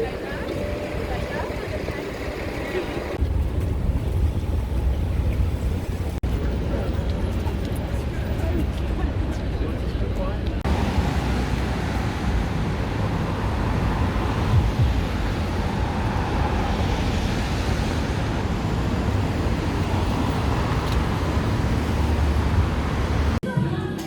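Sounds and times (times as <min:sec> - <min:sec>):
road traffic hum: 0:00.0 - 0:23.4.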